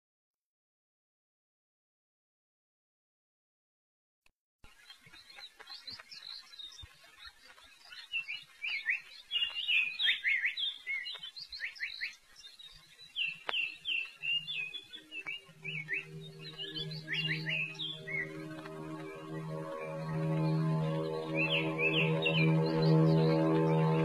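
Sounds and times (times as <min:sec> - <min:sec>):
small birds chirping: 0:04.6 - 0:24.0.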